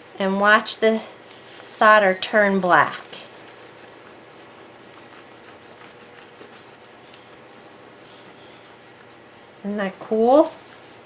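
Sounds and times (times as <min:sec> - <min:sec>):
cloth rubbing on glass: 0:00.0 - 0:11.0.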